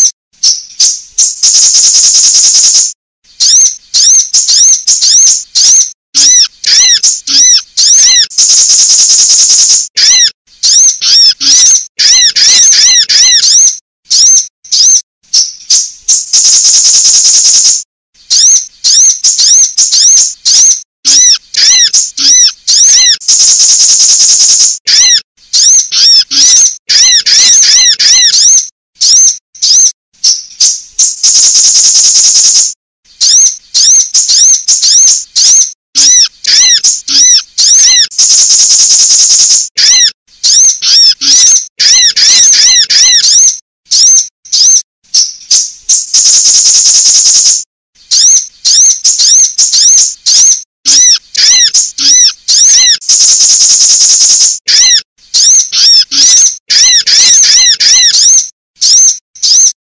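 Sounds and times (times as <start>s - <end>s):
dense high bird trill: 0.0s - 59.8s
recorded bird calls chirping: 0.0s - 59.8s.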